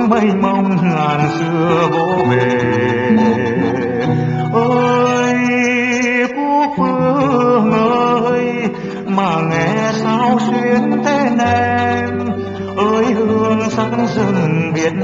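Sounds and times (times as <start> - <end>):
guitar accompaniment: 0.0 - 15.0
man singing: 0.0 - 15.0.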